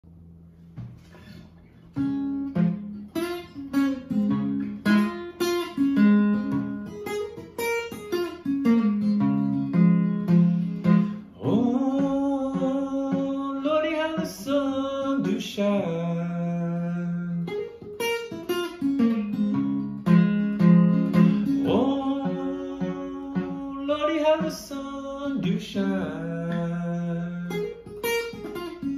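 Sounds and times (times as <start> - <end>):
fingerstyle acoustic guitar: 0.7 - 28.9.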